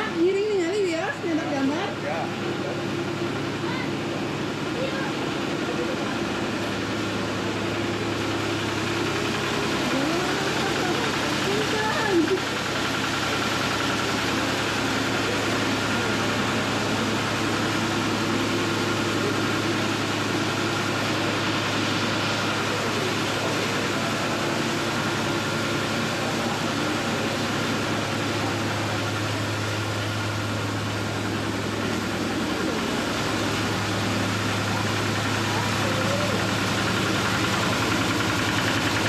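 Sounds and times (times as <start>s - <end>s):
machine engine hum: 0.0s - 39.0s.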